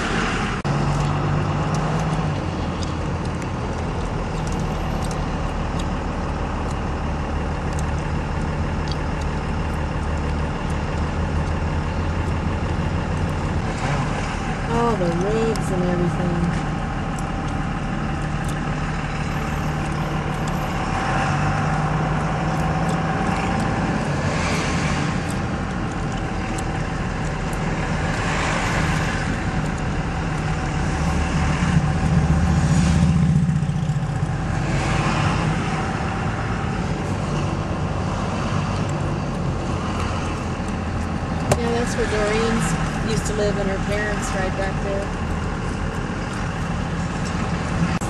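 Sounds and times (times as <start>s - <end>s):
car engine hum: 0.0s - 48.0s.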